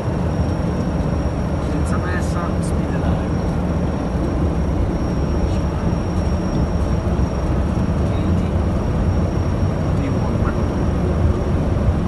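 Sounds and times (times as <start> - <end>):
high engine whine: 0.0 - 12.0
jet engine low rumble: 0.0 - 12.0.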